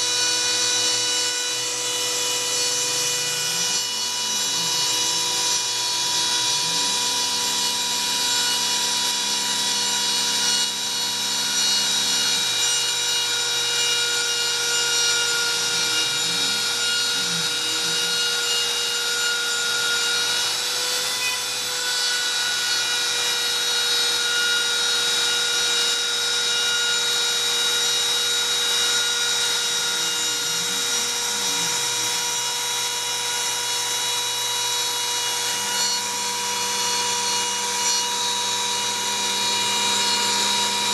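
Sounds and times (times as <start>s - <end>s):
bit grinding through sheet: 0.0s - 20.7s, 26.6s - 40.9s
router spindle whine: 0.0s - 40.9s.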